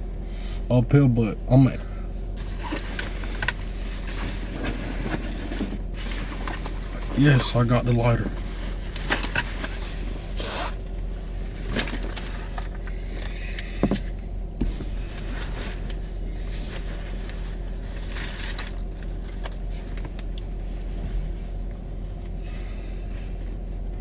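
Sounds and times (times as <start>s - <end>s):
vehicle engine idling: 0.0s - 24.0s
light handling clicks and rustles: 2.3s - 24.0s.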